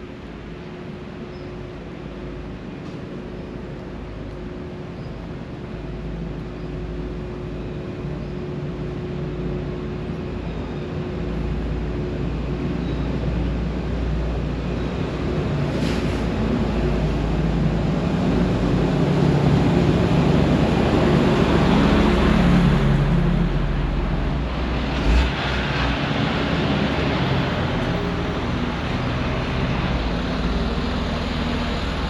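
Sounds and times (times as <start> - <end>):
motor vehicle engine hum: 0.2 - 32.0.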